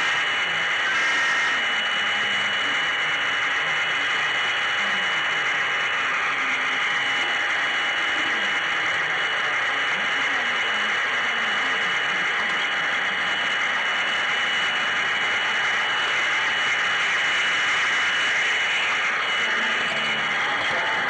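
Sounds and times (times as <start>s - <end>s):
high whine: 0.0s - 21.0s
model train running on track: 0.0s - 21.0s.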